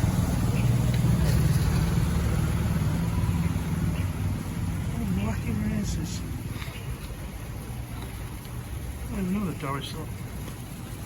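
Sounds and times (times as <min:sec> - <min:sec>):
small motorbike engines running: 0:00.0 - 0:11.0.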